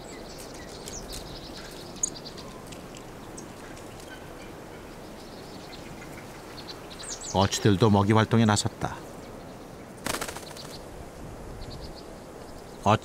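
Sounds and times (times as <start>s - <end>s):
small birds chirping: 0.0s - 10.9s, 11.5s - 13.0s
faint outdoor hiss: 0.0s - 13.0s.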